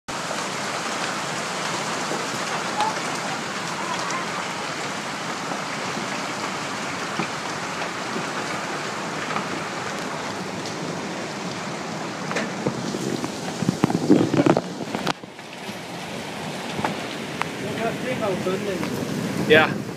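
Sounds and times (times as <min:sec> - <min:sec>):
heavy rain pouring: 0:00.1 - 0:19.9.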